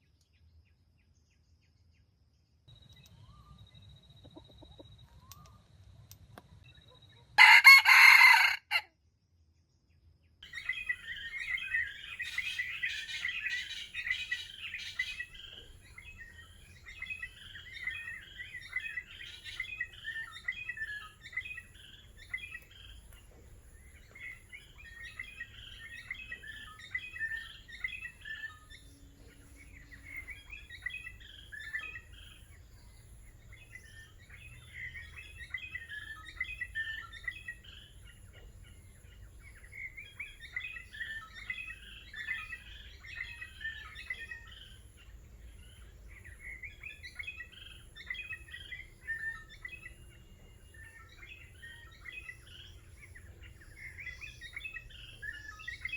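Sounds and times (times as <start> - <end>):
songbird chattering: 10.4 - 55.9.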